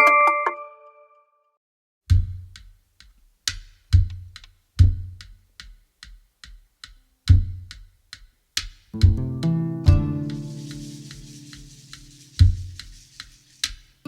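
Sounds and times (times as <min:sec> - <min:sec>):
light drum taps: 0:02.1 - 0:13.8.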